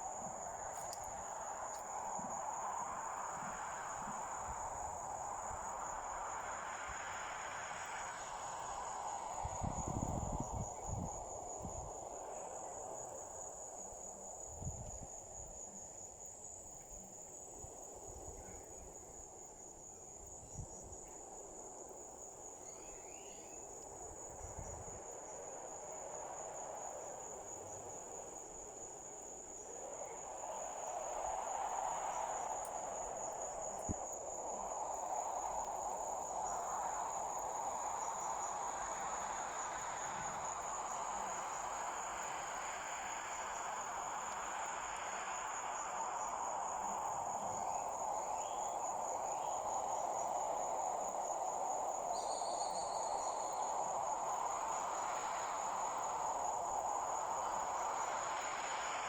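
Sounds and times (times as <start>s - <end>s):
insects trilling: 0.0s - 59.0s
soft rushing background noise: 0.0s - 59.0s.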